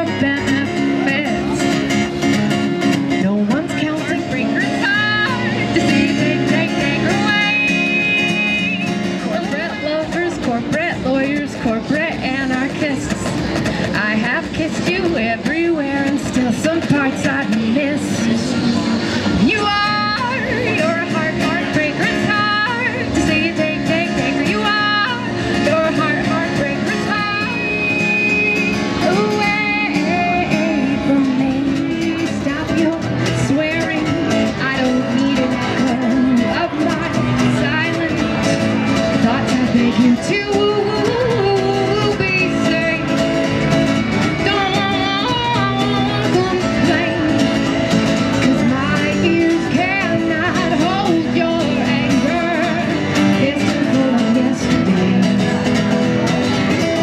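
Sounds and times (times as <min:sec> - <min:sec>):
woman singing: 0:00.0 - 0:55.9
acoustic guitar: 0:00.0 - 0:57.0.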